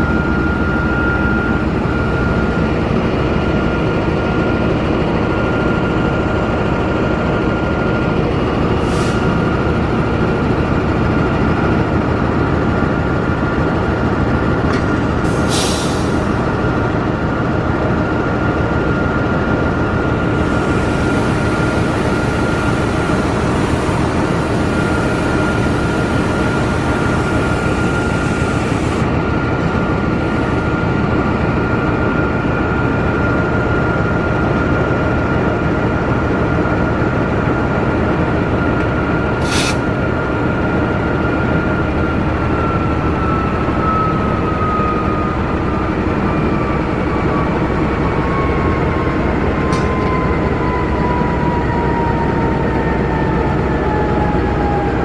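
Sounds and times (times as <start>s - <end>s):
train wheels rushing on rails: 0.0s - 55.0s.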